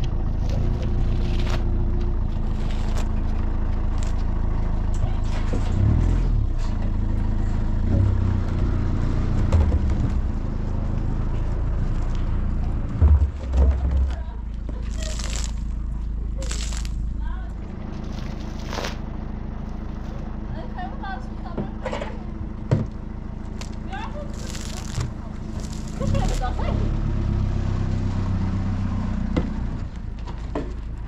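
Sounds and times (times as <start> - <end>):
motor running low rumble: 0.0 - 31.0.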